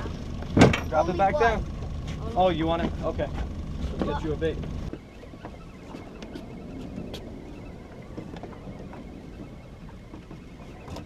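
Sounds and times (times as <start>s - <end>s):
water around a boat: 0.0s - 11.0s
wind: 0.0s - 11.0s.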